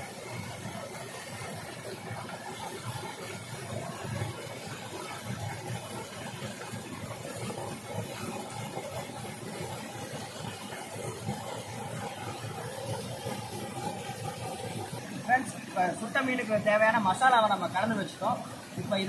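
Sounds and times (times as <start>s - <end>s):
waterfall and stream rushing: 0.0s - 19.0s.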